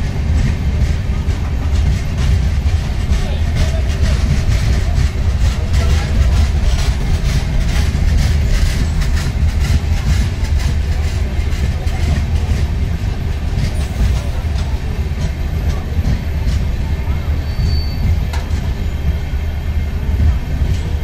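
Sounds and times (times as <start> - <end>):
wheels clicking over rail joints: 0.0 - 19.2
train coaches rumbling: 0.0 - 21.0.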